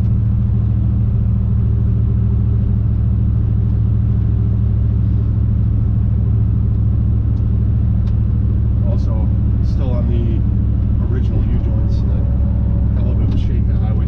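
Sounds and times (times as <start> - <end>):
engine drone inside truck cab: 0.0 - 14.0.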